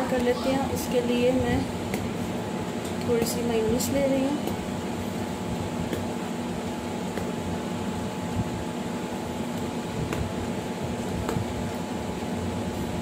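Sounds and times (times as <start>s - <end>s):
machine hum and hiss: 0.0s - 13.0s.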